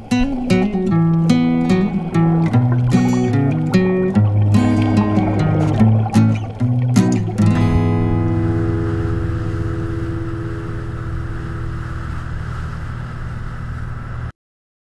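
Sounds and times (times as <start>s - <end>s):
motorboat engine drone: 0.0s - 14.3s
rush of wind and water: 0.0s - 14.3s.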